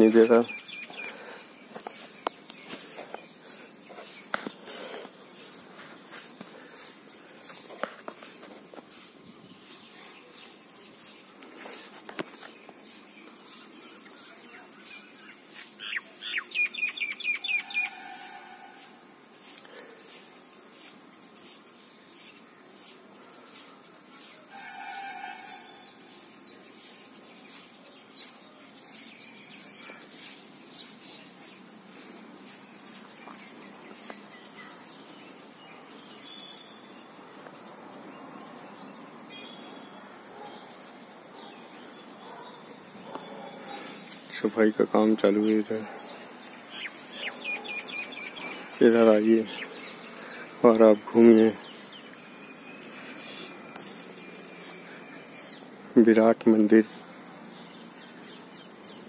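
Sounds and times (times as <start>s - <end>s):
bird chirping: 0.0s - 5.7s, 7.4s - 18.4s, 25.0s - 59.0s
insects pulsing chorus: 0.0s - 59.0s.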